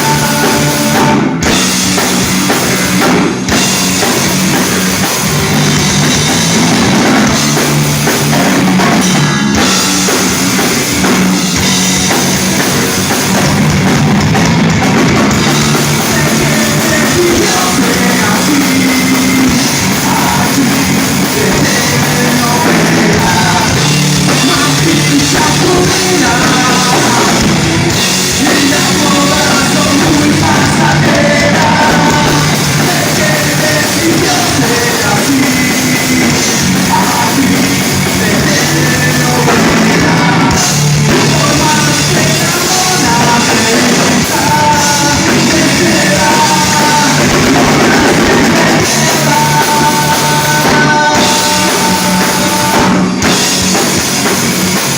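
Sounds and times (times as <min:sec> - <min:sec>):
live rock band with singer: 0:00.0 - 0:54.9.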